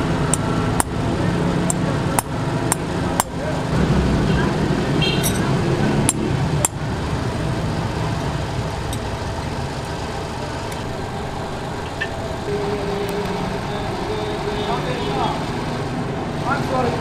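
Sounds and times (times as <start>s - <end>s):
steady mechanical drone: 0.0s - 17.0s.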